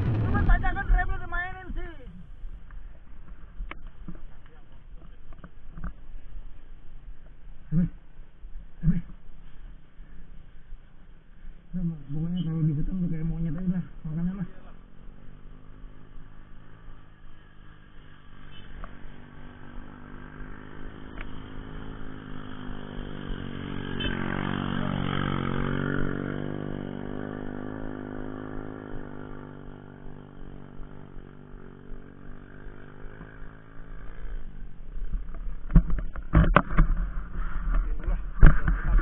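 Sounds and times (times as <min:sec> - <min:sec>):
small motorcycles riding past: 0:00.0 - 0:39.0.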